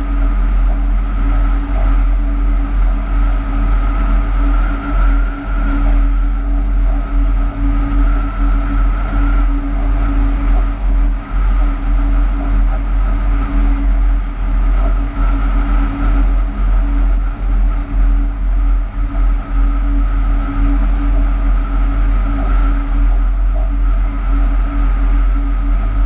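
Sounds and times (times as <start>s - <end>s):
locomotive cab drone: 0.0s - 26.0s.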